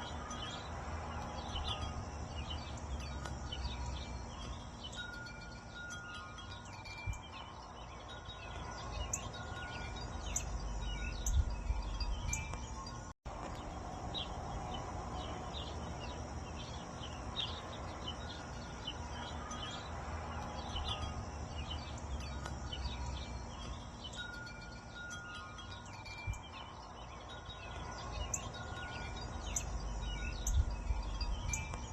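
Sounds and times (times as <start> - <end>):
low wind rumble: 0.0 - 31.9
wind chimes ringing: 0.0 - 31.9.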